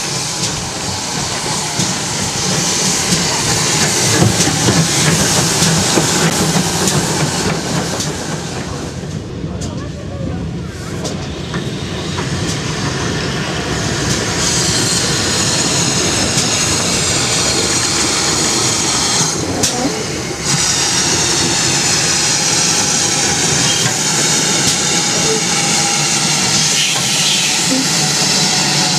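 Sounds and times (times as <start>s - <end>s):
loud steam hiss: 0.0s - 9.1s, 10.6s - 28.9s
rail and running-gear noise: 0.0s - 28.9s.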